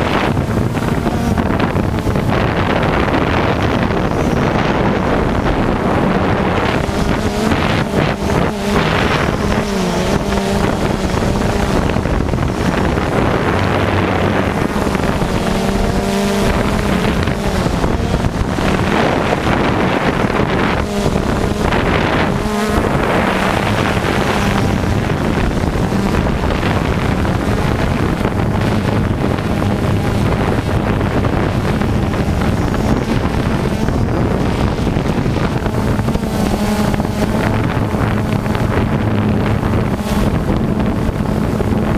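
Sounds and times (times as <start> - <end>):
small motors buzzing and revving: 0.0 - 41.9.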